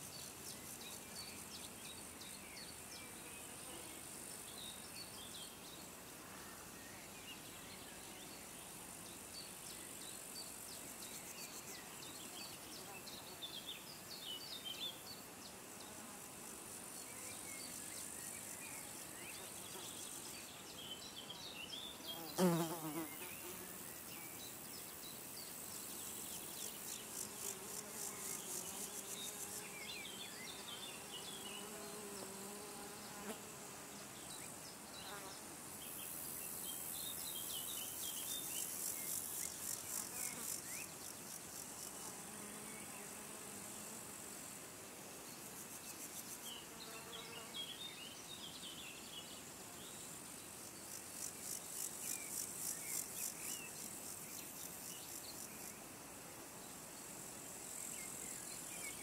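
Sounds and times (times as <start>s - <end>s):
flying insects buzzing: 0.0s - 59.0s
high pulsing insect trills: 0.0s - 59.0s.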